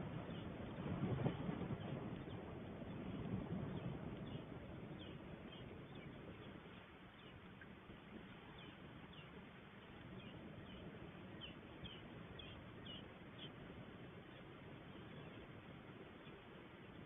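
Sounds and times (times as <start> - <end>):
steady low background noise: 0.0 - 17.0.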